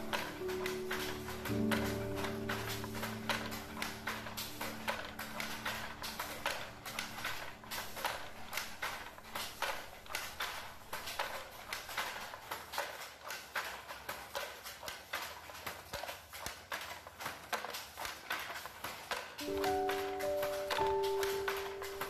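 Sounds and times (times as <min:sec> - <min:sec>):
wooden handloom clacking: 0:00.0 - 0:22.0.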